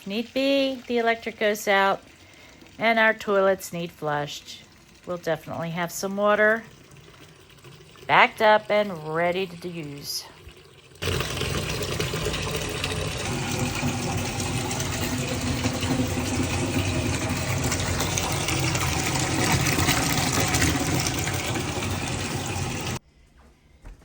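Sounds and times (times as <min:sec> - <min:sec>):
tap water running into bucket: 0:00.0 - 0:23.0.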